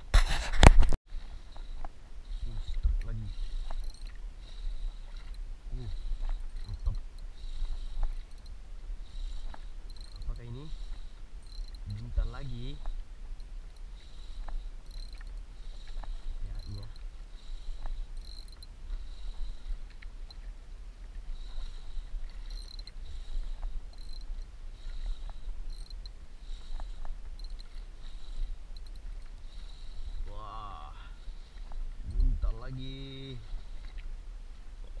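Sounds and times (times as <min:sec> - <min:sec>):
faint clicks: 0:00.6 - 0:30.3
wind buffeting microphone: 0:05.4 - 0:35.0.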